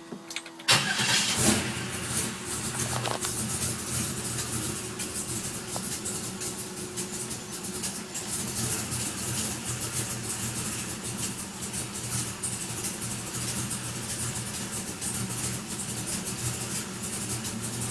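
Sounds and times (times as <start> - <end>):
car engine idling: 0.7 - 17.9
fast light engine ticking: 0.8 - 17.9.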